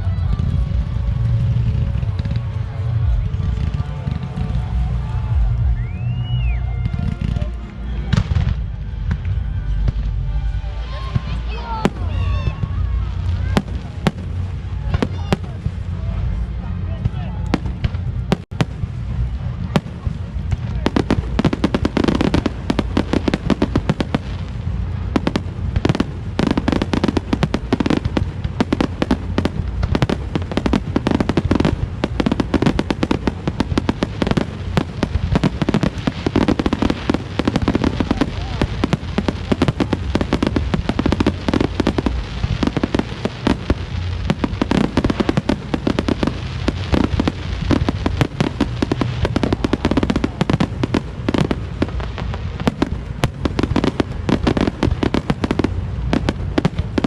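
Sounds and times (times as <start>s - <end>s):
deep rumble: 0.0s - 57.0s
firework bangs and crackles: 0.0s - 57.0s.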